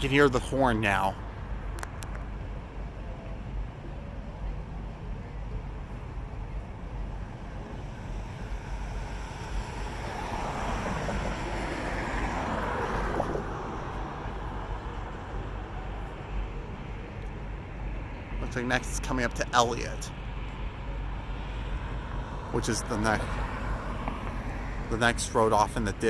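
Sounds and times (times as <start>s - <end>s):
steady low rumble: 0.0s - 26.0s
vehicle tyre and road noise: 0.0s - 26.0s.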